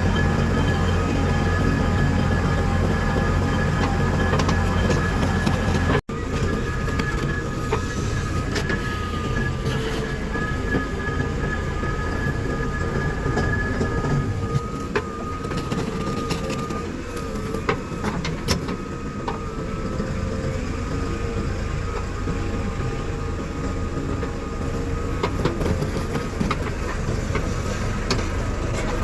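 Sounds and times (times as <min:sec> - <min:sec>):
diesel engine rumbling under load: 0:00.0 - 0:29.0.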